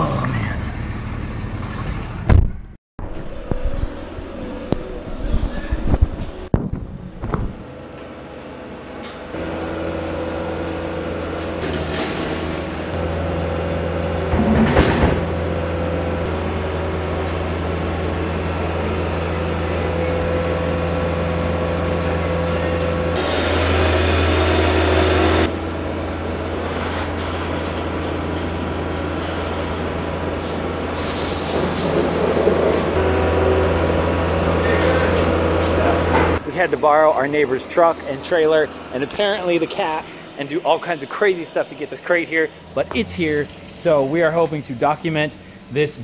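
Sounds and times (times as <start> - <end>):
vehicle engine droning: 0.0 - 46.0.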